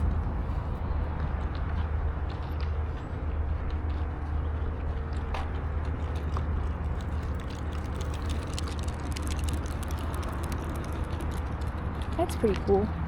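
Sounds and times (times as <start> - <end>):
footsteps on a trail: 0.0 - 12.9
road traffic rumble: 0.0 - 13.0.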